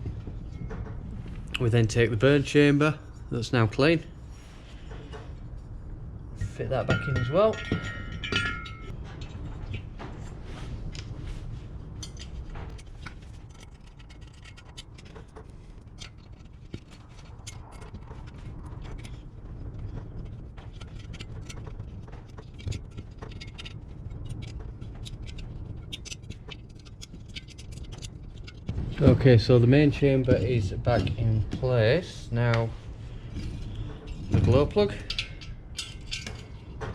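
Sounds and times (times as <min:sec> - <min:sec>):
low steady hum: 0:00.0 - 0:36.9
light metal clicks and scrapes: 0:06.4 - 0:36.9.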